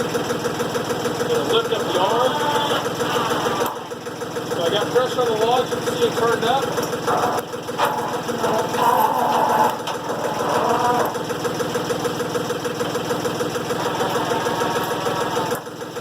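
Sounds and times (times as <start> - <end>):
diesel engine idling: 0.0 - 16.0
higher mechanical sounds: 0.5 - 16.0.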